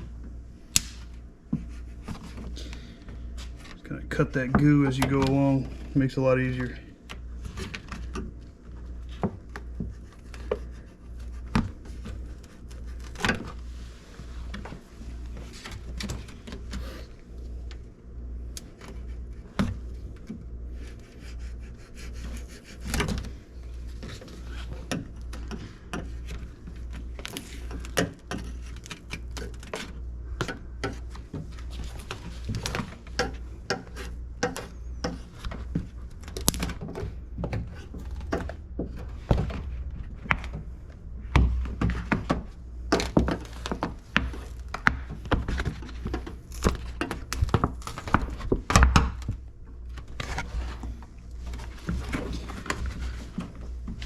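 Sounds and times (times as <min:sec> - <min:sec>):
plastic rubbing and scraping: 0:06.6 - 0:17.0, 0:18.7 - 0:40.8, 0:41.6 - 0:54.0.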